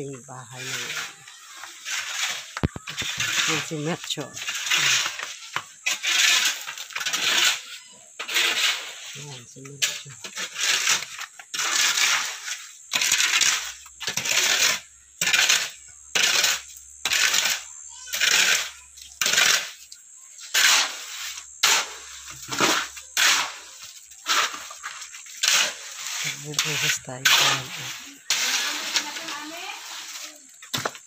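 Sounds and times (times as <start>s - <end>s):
shovels scraping through gravel: 0.2s - 31.0s.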